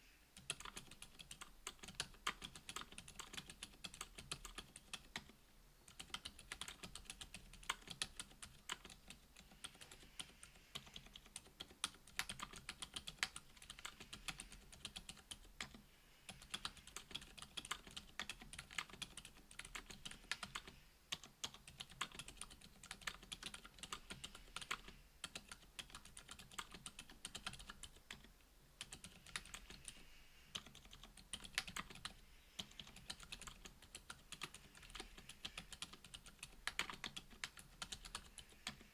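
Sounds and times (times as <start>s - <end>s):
muffled keyboard keystrokes: 0.4s - 38.9s.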